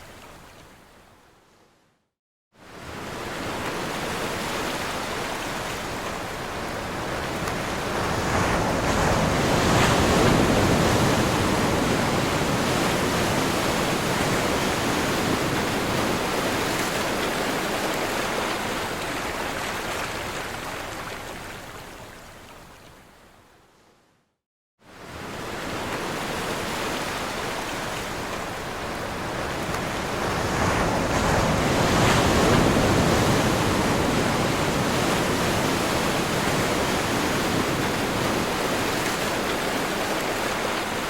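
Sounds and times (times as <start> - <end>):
ocean waves crashing on shore: 2.6 - 21.5, 24.9 - 41.0.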